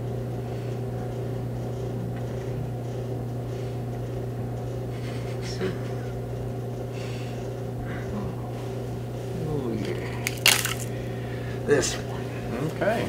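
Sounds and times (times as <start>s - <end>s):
low hum of background machinery: 0.0s - 13.0s.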